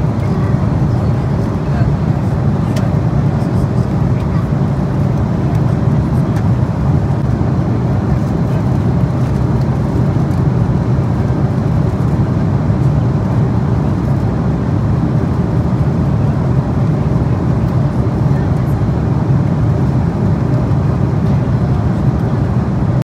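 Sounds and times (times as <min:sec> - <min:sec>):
airliner cabin noise: 0:00.0 - 0:23.0.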